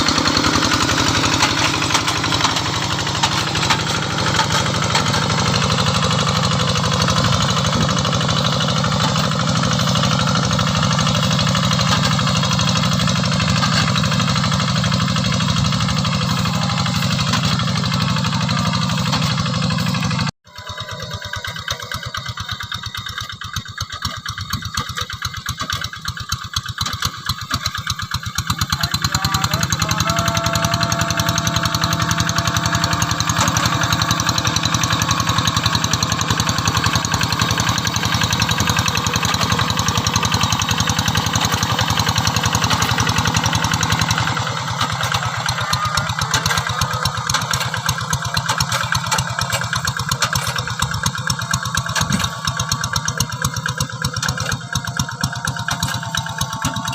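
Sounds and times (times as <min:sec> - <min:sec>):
diesel tractor engine chugging: 0:00.0 - 0:56.9.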